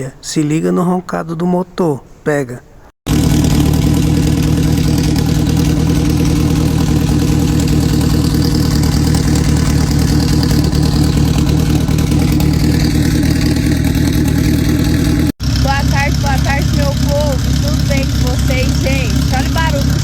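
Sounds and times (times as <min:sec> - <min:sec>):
car engine idling: 0:03.1 - 0:20.0.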